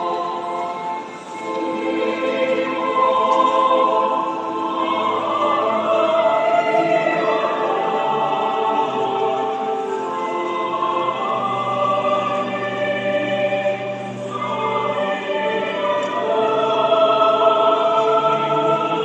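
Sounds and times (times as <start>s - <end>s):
choir singing a slow hymn: 0.0s - 19.0s.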